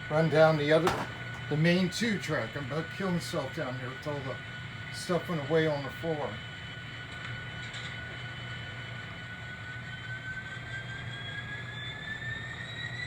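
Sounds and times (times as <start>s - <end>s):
low hum: 0.0s - 12.7s
model locomotive whine: 0.0s - 13.0s.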